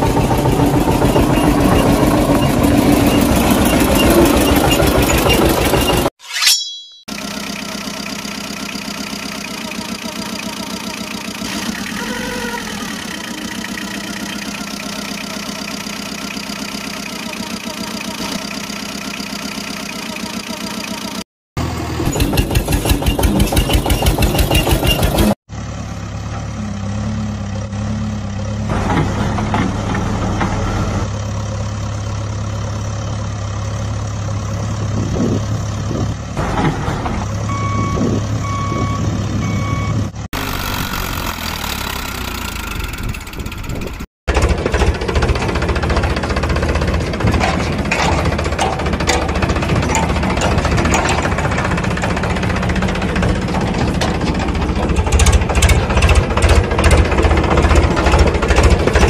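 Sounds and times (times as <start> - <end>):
engine idling: 0.0 - 6.1, 7.1 - 26.5, 27.4 - 59.0
loud pulsing engine: 0.0 - 6.1, 7.1 - 59.0.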